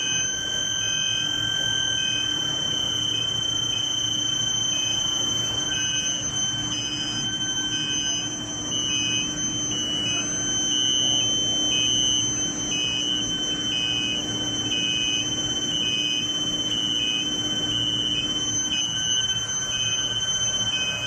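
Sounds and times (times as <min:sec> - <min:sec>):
high-pitched furnace whine: 0:00.0 - 0:21.0
low machine hum: 0:00.0 - 0:21.0.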